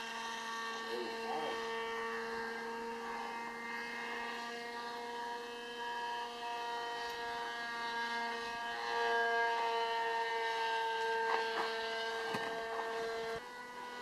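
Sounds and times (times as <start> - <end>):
model plane electric motor whining: 0.0 - 14.0.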